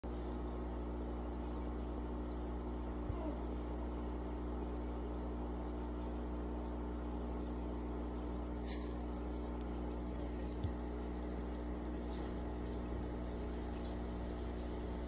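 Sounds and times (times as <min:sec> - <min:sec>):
aquarium equipment hum: 0:00.0 - 0:15.0.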